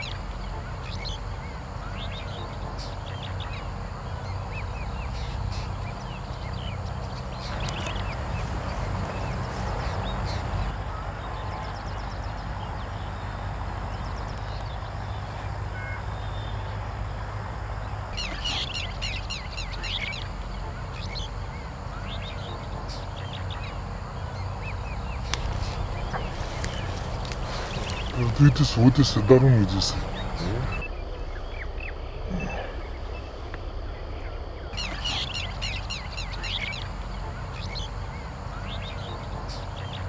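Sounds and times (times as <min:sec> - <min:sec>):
birds chirping and twittering: 0:00.0 - 0:40.0
low rumble: 0:00.0 - 0:40.0.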